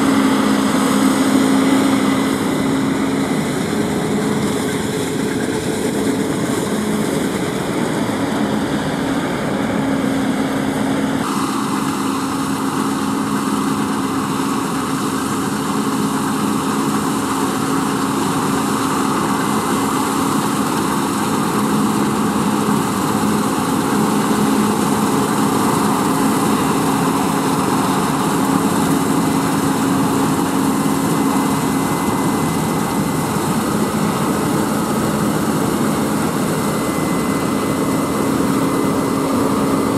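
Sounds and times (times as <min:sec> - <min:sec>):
combine harvester engine drone: 0:00.0 - 0:39.9
threshing machinery whirring: 0:00.0 - 0:39.9.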